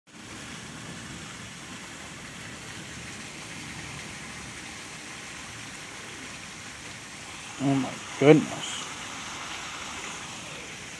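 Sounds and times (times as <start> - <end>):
heavy rain pouring: 0.1 - 10.9.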